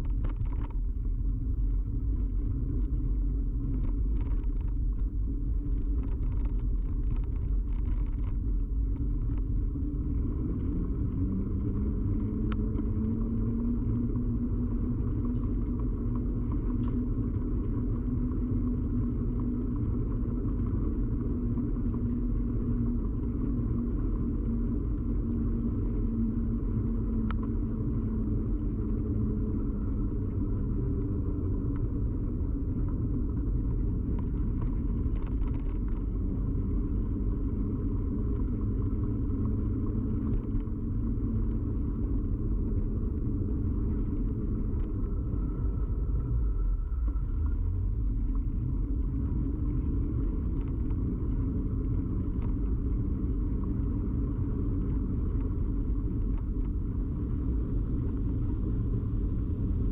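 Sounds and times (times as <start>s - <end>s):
bicycle tyres rumbling: 0.0s - 59.9s
constant low hum: 0.0s - 59.9s.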